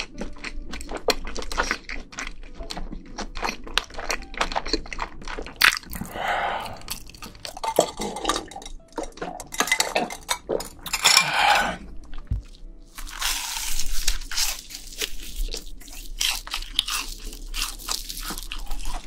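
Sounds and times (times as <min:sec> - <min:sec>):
crunchy chewing: 0:00.0 - 0:08.3, 0:11.3 - 0:19.0.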